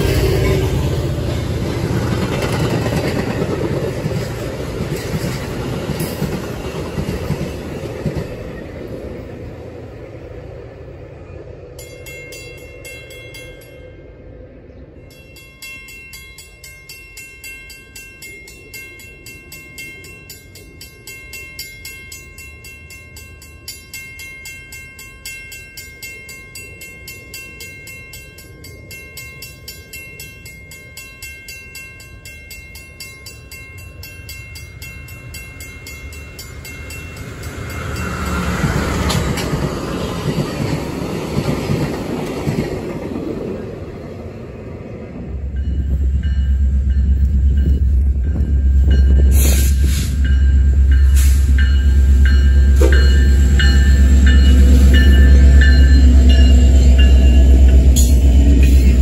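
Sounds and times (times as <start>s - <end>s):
passing train rumble: 0.0s - 59.0s
railroad warning bell dinging: 0.0s - 59.0s.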